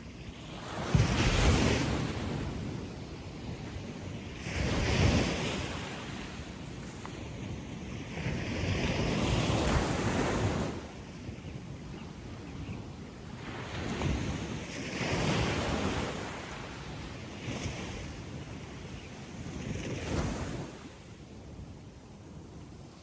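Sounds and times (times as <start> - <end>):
sea waves washing on beach: 0.0 - 11.6, 13.0 - 21.6.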